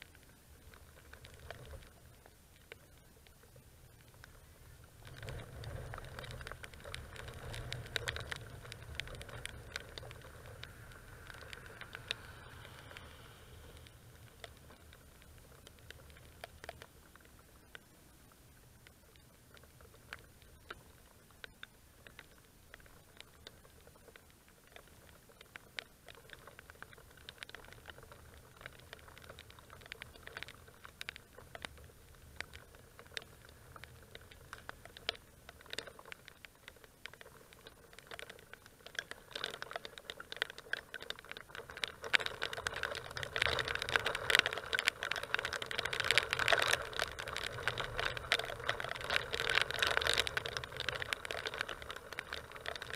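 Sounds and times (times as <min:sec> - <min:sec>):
rain patter on camera: 0:00.0 - 0:52.9.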